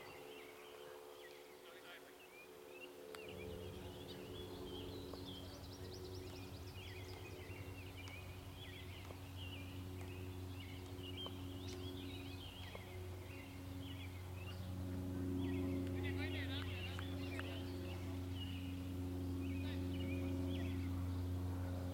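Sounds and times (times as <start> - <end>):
birds chirping and singing: 0.0 - 21.3
steady low hum: 0.0 - 21.9.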